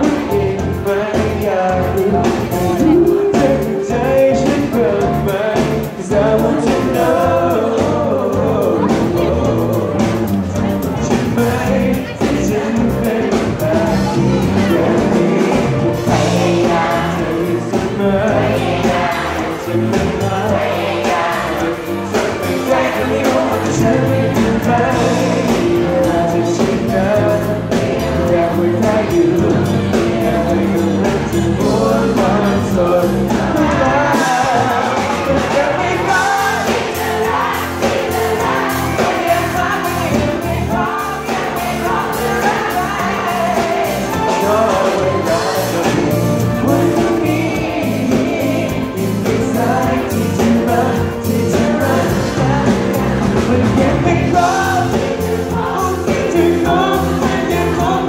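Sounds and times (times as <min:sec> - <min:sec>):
keyboard: 0:00.0 - 0:58.0
man singing into a microphone: 0:00.0 - 0:58.0.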